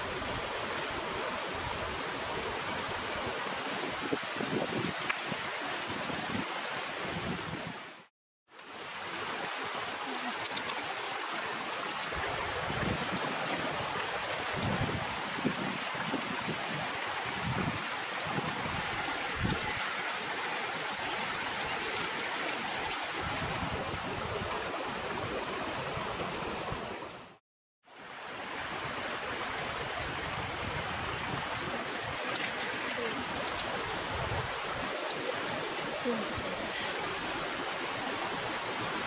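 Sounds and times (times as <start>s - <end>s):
shallow rocky creek rushing: 0.0s - 39.0s.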